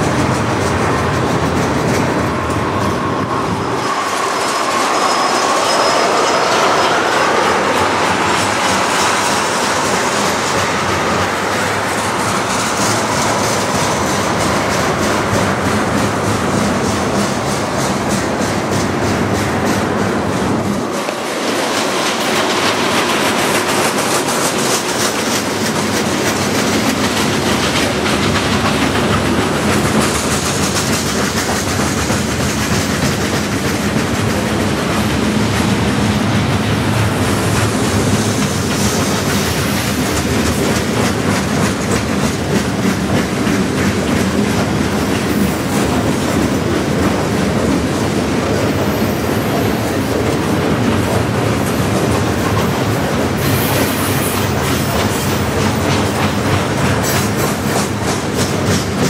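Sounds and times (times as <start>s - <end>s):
freight train rolling past: 0.0s - 59.0s
wheels clicking on rails: 0.0s - 59.0s.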